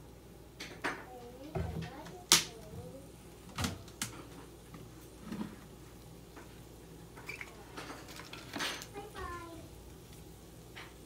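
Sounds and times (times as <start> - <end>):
sauce bubbling in a frying pan: 0.0 - 11.0.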